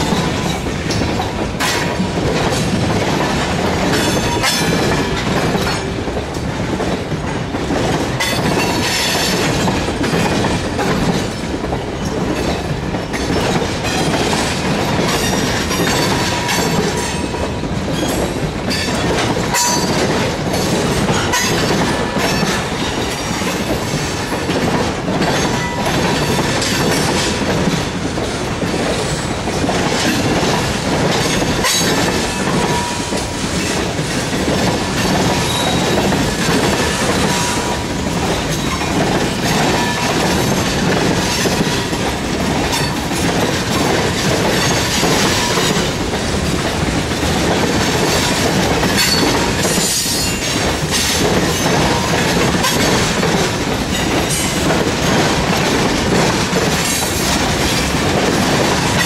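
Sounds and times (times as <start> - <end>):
clickety-clack over rail joints: 0.0 - 59.0
train wheels rumbling on rail: 0.0 - 59.0.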